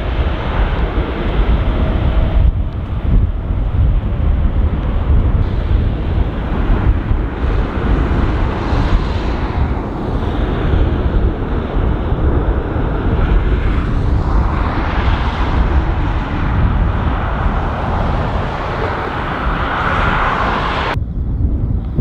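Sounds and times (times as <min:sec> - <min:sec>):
jet engine roar: 0:00.0 - 0:21.0
wind on microphone: 0:00.0 - 0:22.0.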